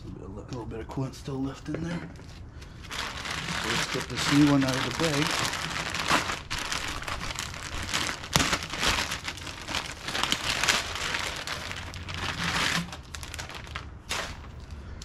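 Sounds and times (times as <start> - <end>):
plastic bag crinkling: 2.8 - 15.0.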